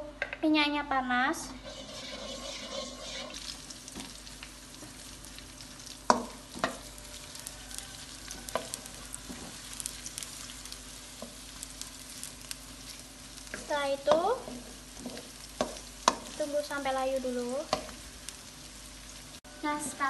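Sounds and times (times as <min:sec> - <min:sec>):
onions sizzling in hot oil: 0:01.4 - 0:20.0.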